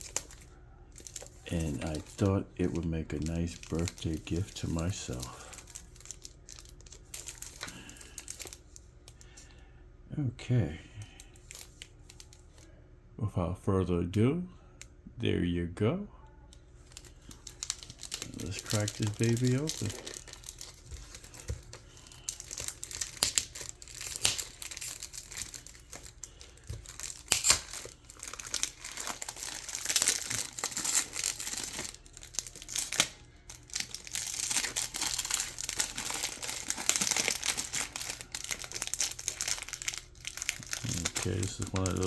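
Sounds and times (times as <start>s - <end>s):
packaging crinkling and tearing: 0.0s - 9.4s, 11.2s - 12.7s, 16.8s - 42.0s.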